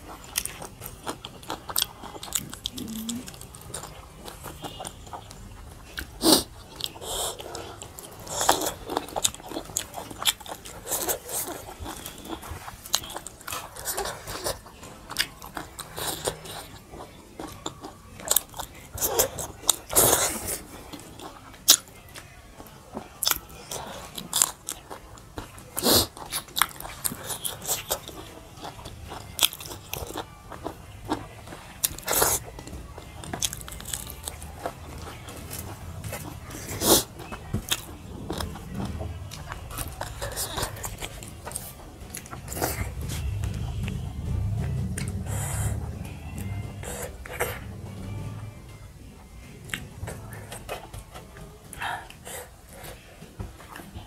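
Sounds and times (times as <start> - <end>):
people chewing: 0.0 - 54.0.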